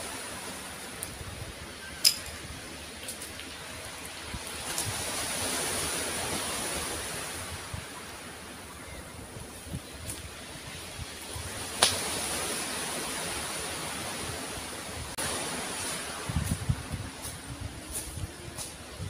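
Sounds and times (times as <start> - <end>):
surf on a pebble beach: 0.0 - 19.0.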